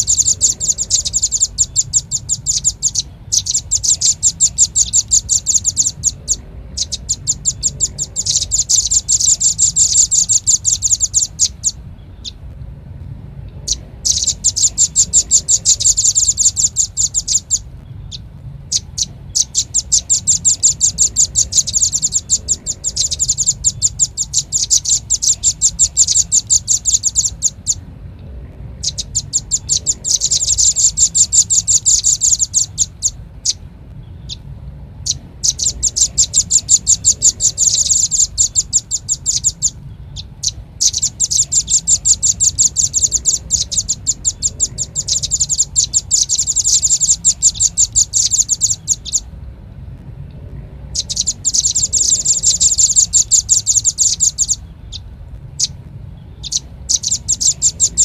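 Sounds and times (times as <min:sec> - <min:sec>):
bird high sharp chip calls: 0:00.0 - 0:12.5, 0:13.5 - 0:27.8, 0:28.7 - 0:49.3, 0:50.9 - 0:58.0.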